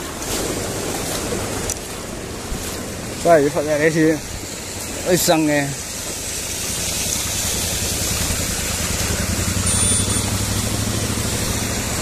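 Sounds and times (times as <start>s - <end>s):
vehicle engine humming: 0.0s - 12.0s
water washing: 0.0s - 12.0s.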